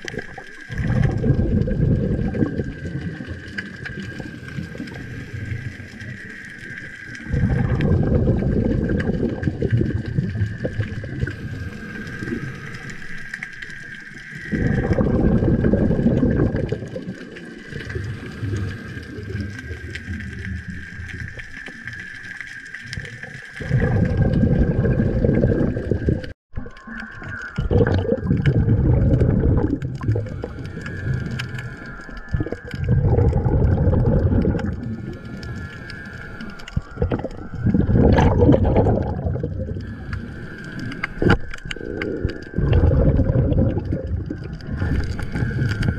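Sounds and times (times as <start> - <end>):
underwater air bubbling: 0.0 - 45.9.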